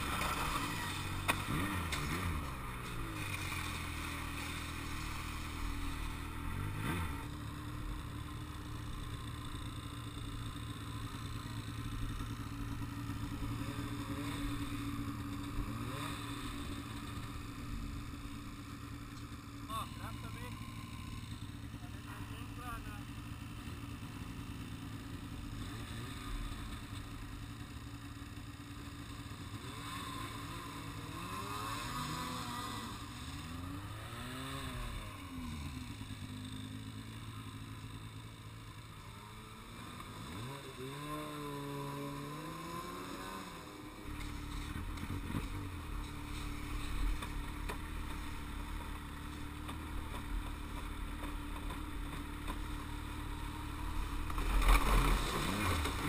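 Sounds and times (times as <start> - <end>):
snowmobile engine idling: 0.0 - 56.0
snowmobile engine revving: 0.0 - 56.0.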